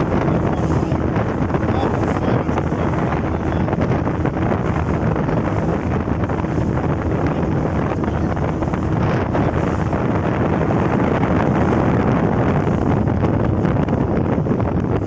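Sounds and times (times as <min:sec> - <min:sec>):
motorboat engine drone: 0:00.0 - 0:15.0
wind buffeting microphone: 0:00.0 - 0:15.0.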